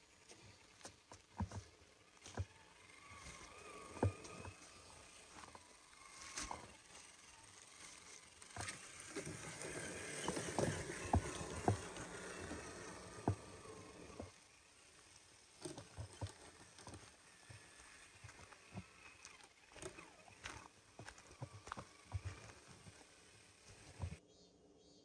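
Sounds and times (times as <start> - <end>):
tyres crunching over dry leaves: 0.3 - 24.2.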